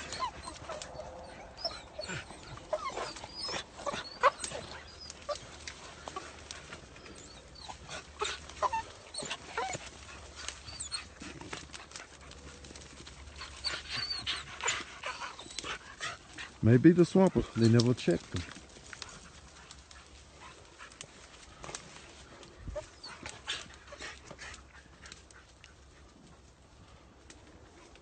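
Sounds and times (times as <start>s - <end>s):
dogs whining and yelping: 0.0s - 16.6s, 17.2s - 26.2s
rustling and snapping brush: 0.0s - 28.0s.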